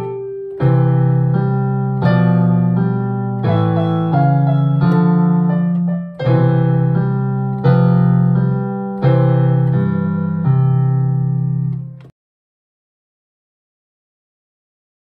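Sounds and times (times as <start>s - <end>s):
piano duet playing chords: 0.0s - 12.1s.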